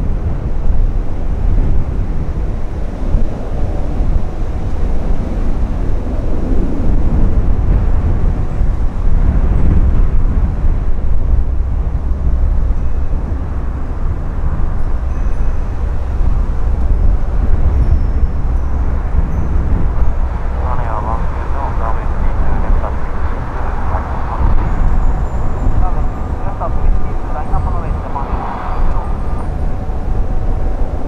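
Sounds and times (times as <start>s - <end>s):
jet engine rumble: 0.0s - 31.0s
wind buffeting microphone: 0.0s - 31.0s.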